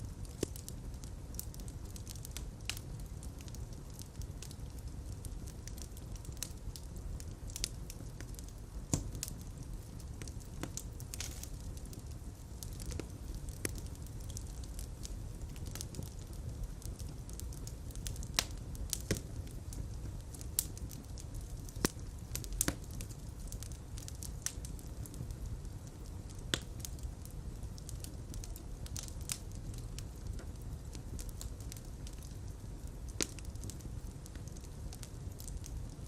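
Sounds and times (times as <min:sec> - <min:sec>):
fire crackling and popping: 0:00.0 - 0:36.0
fire flames rumbling: 0:00.0 - 0:36.0.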